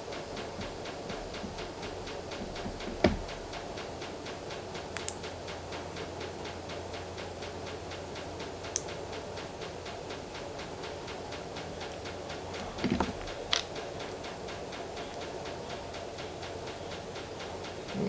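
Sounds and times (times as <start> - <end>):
fast even ticking: 0.0 - 18.0
steady hum: 0.0 - 18.0.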